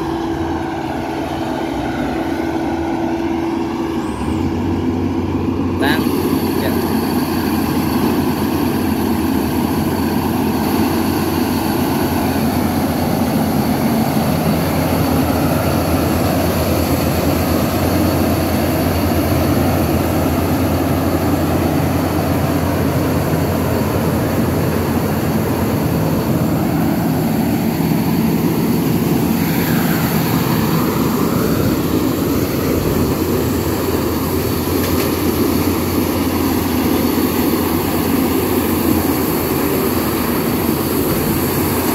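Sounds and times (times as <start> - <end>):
combine harvester engine drone: 0.0 - 41.9
steady high whine: 0.0 - 41.9.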